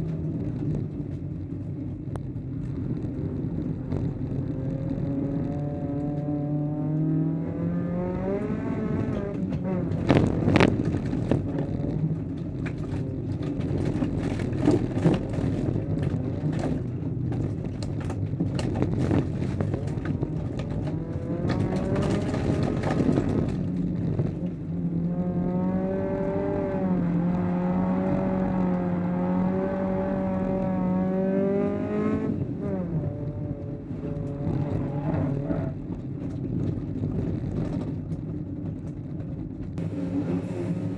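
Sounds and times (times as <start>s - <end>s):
car engine revving: 0.0s - 38.5s, 39.8s - 40.9s.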